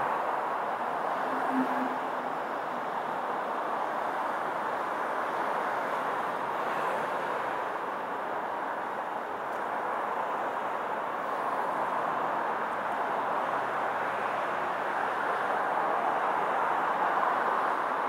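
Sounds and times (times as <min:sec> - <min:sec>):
outdoor background rush: 0:00.0 - 0:18.0.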